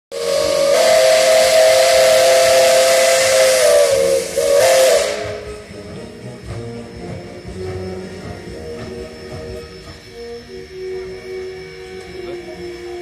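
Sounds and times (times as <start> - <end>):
steam hissing: 0.1 - 13.0
steam locomotive whistle: 0.1 - 13.0.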